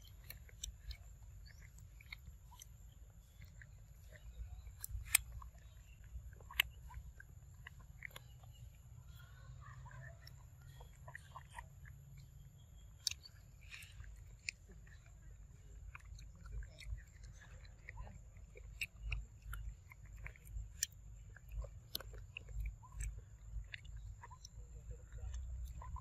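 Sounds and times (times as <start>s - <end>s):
monkey chewing fruit: 0.0s - 26.0s.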